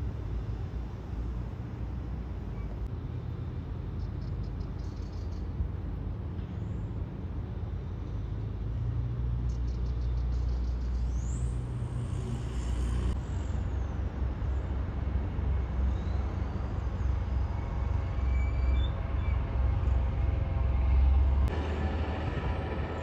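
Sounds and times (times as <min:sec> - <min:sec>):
low engine rumble: 0:00.0 - 0:23.0.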